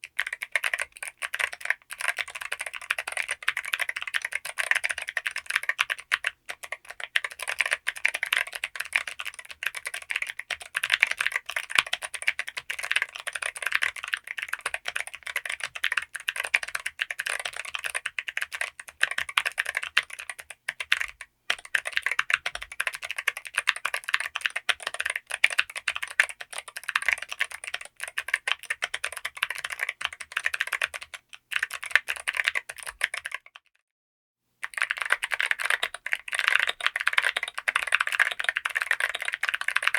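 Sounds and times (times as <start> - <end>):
mechanical keyboard typing: 0.0 - 33.6, 34.6 - 39.9.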